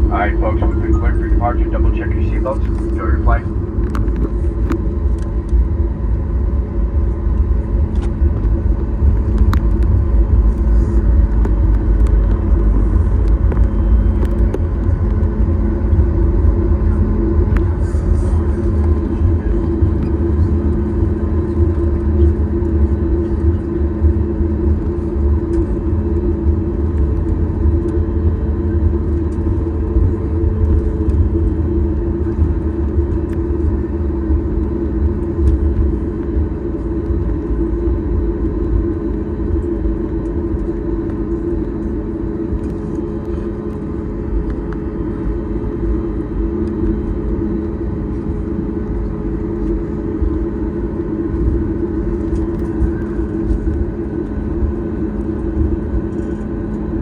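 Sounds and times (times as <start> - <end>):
jet engines rumbling in cabin: 0.0 - 57.0.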